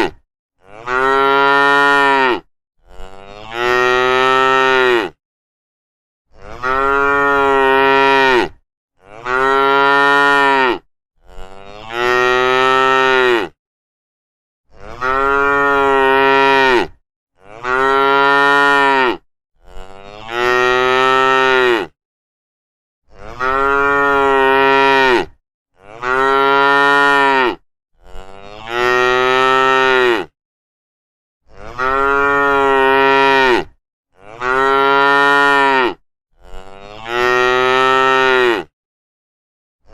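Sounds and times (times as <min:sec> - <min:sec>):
cattle mooing: 0:00.6 - 0:05.2, 0:06.4 - 0:13.6, 0:14.8 - 0:21.9, 0:23.2 - 0:30.3, 0:31.5 - 0:38.7.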